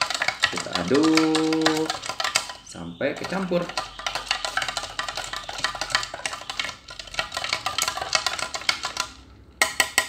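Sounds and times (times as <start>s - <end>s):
metal spoon scraping plastic cup: 0.0s - 9.2s.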